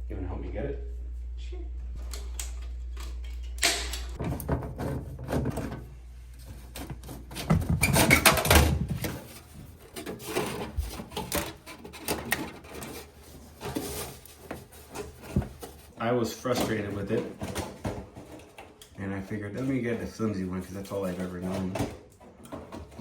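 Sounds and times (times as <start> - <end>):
steady low hum: 0.0 - 20.9
knocks and clatter of handling: 2.0 - 19.0, 20.8 - 23.0.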